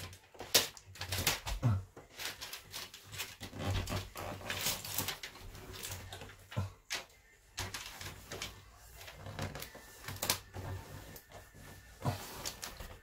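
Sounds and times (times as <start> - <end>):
tape ripping and rubbing: 0.0 - 13.0.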